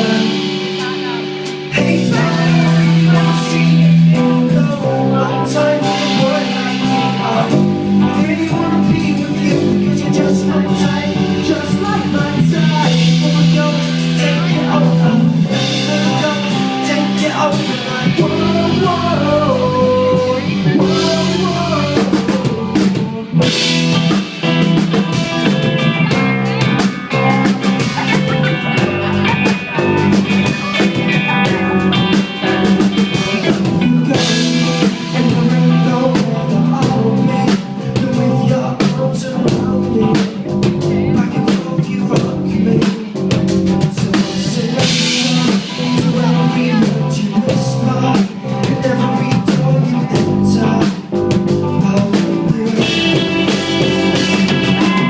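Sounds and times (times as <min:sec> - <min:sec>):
pop-rock music with drums and guitar: 0:00.0 - 0:55.0.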